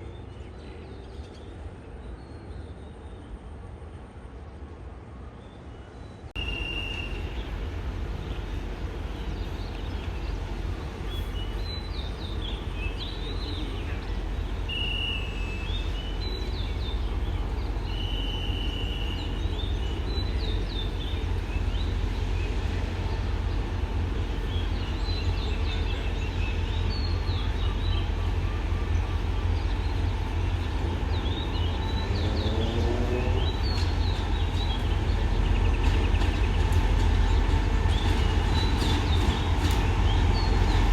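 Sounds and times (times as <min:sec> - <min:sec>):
diesel locomotive rumble: 0:06.3 - 0:40.9
small birds chirping: 0:06.4 - 0:40.9.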